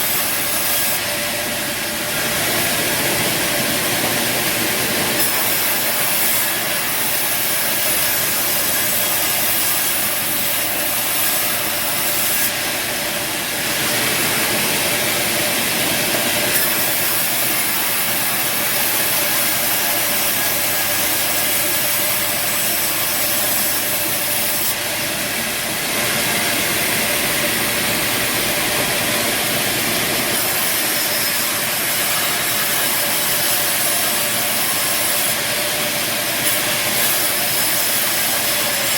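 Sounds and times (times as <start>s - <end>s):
saw blade hissing in wood: 0.0s - 38.9s
sawmill machine drone: 0.0s - 38.9s.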